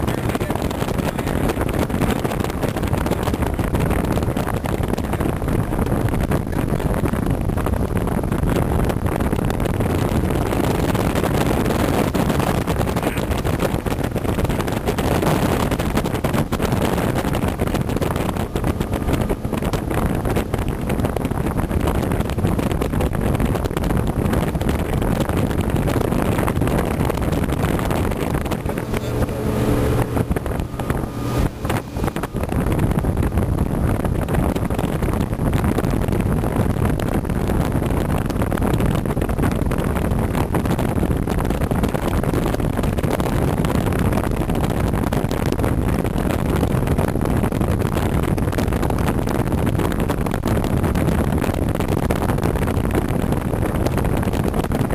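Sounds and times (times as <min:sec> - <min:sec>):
motorboat engine running: 0:00.0 - 0:54.9
wind noise on microphone: 0:00.0 - 0:54.9.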